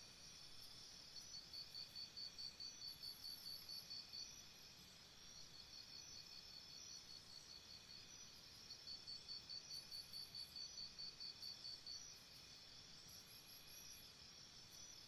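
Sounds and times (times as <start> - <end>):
high insect chirps: 0.2 - 15.0
insects trilling: 0.2 - 15.0.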